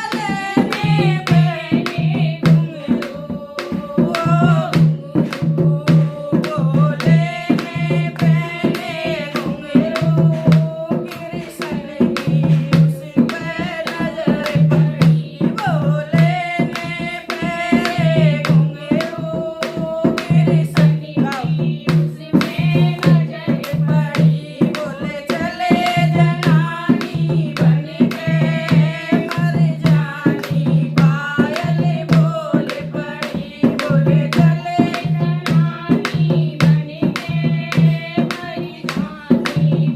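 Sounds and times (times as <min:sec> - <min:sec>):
hand drum beat: 0:00.0 - 0:39.9
sharp percussion strokes: 0:00.0 - 0:39.9.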